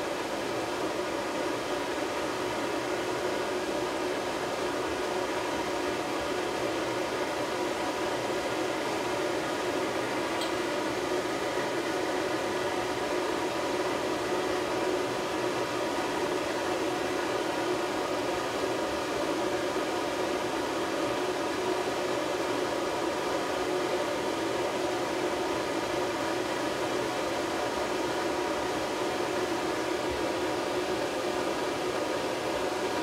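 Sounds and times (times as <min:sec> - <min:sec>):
hair dryer blowing: 0:00.0 - 0:33.0.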